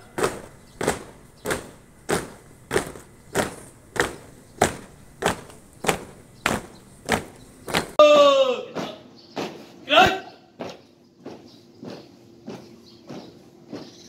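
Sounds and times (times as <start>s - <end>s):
boots marching on pavement: 0.0s - 8.0s, 8.6s - 14.0s.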